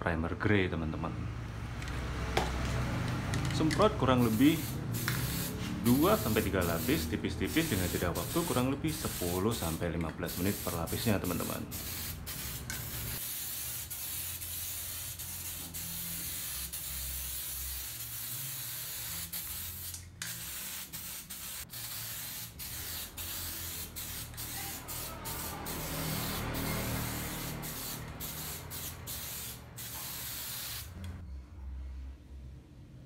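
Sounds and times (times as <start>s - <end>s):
aerosol spray can hissing: 4.2s - 31.0s.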